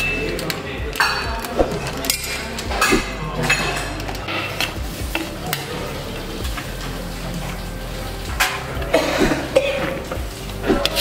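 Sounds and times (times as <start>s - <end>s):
metal spoon scraping metal pot: 0.0s - 11.0s.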